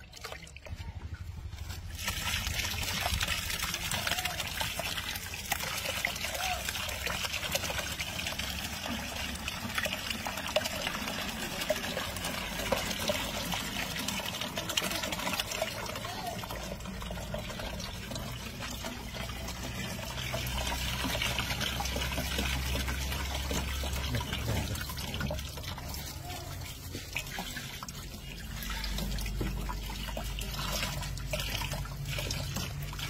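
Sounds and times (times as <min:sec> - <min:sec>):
liquid trickling into plastic drum: 0:00.0 - 0:33.0.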